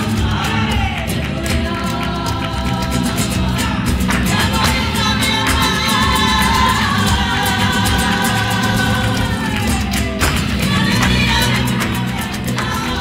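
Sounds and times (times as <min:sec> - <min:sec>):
guitar: 0:00.0 - 0:13.0
people singing: 0:00.0 - 0:13.0.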